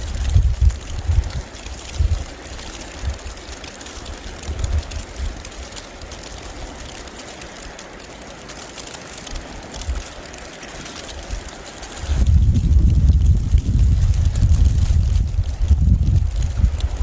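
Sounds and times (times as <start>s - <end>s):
wind buffeting microphone: 0.0s - 7.2s, 9.2s - 17.0s.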